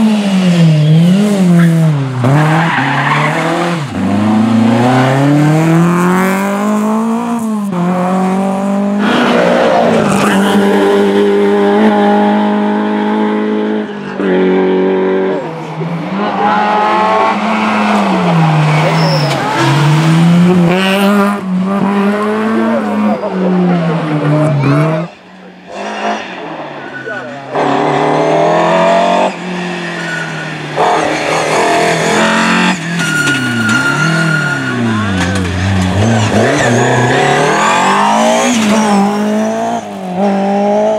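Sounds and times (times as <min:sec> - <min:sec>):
rally car engines revving: 0:00.0 - 0:40.9.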